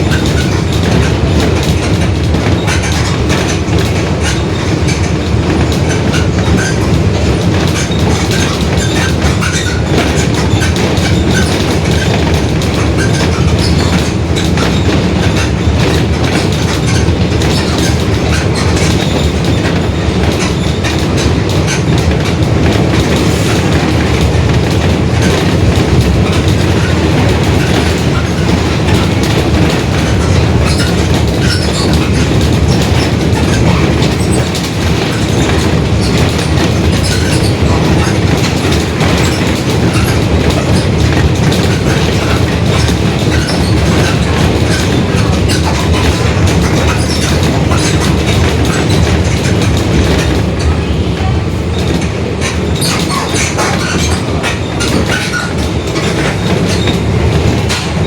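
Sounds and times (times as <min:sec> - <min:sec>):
bus body rattling: 0:00.0 - 0:58.0.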